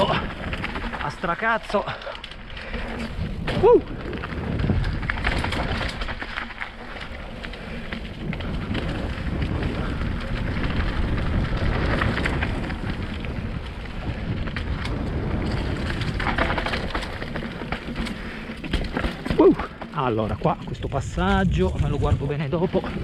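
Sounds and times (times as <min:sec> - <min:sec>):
wind rumble on microphone: 0:00.0 - 0:01.5, 0:02.3 - 0:23.0
bike rattling over bumps: 0:00.0 - 0:23.0
bike tyres crunching over dirt: 0:00.0 - 0:23.0.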